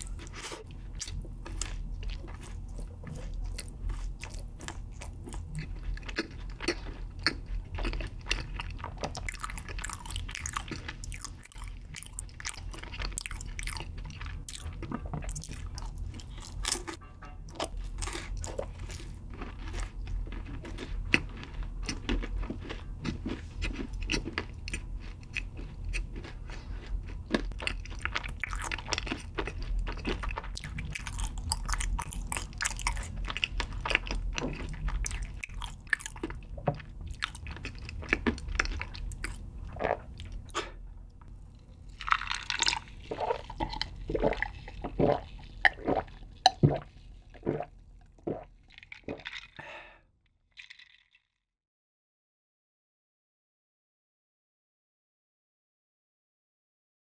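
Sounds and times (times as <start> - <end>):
chewing crunchy food: 0.0 - 51.2.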